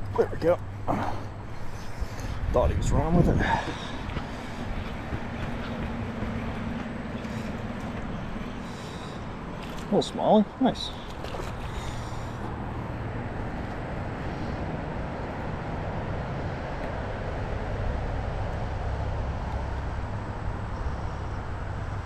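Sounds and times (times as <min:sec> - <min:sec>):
creek water rushing: 0:00.0 - 0:20.6.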